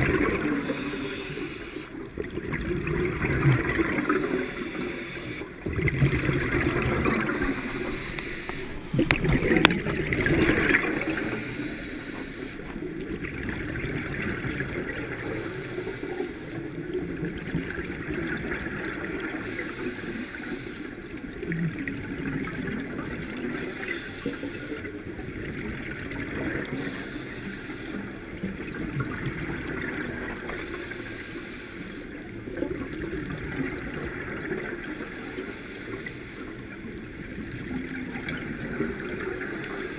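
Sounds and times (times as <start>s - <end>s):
continuous water noise: 0.0s - 39.9s.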